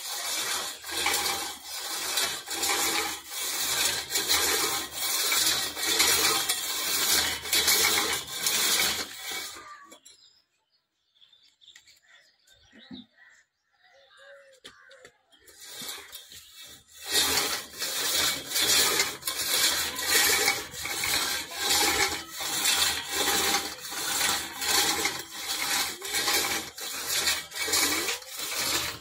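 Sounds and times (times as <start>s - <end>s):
weights scraping on pipe guides: 0.0s - 10.2s, 15.5s - 29.0s.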